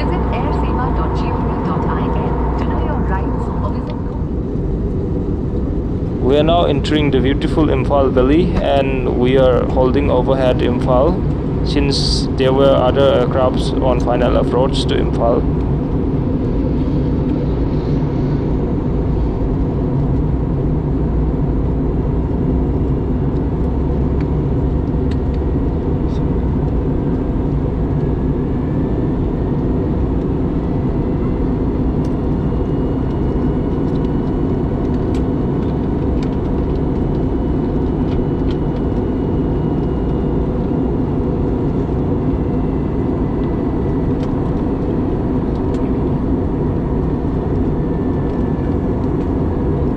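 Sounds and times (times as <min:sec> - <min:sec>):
airplane cabin engine rush: 0:00.0 - 0:49.9
faint steady whine: 0:00.0 - 0:49.9.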